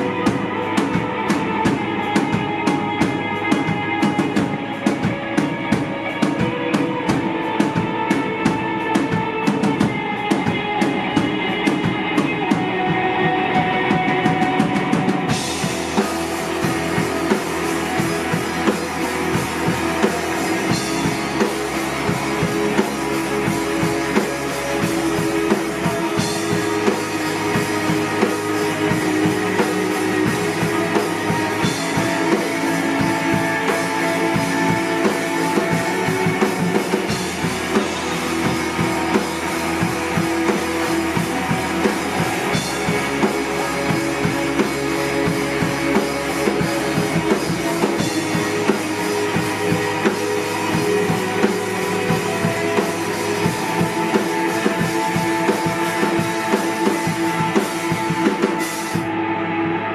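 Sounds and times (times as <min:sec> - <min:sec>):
drum kit beating: 0:00.0 - 0:59.3
sustained guitar chords: 0:00.0 - 0:59.9.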